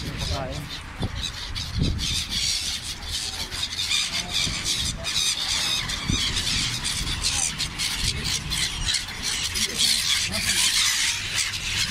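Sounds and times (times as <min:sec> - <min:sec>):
flock of gulls calling: 0:00.0 - 0:11.9.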